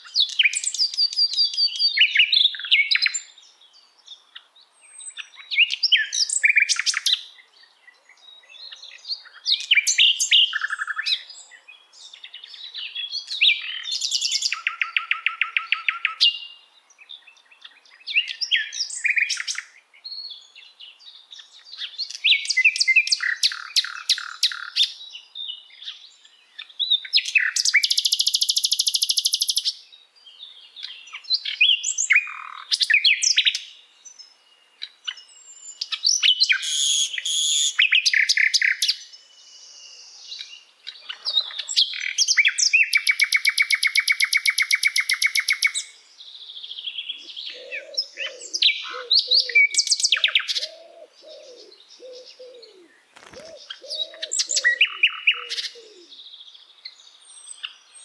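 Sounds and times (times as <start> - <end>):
nightingale singing: 0.0 - 58.0.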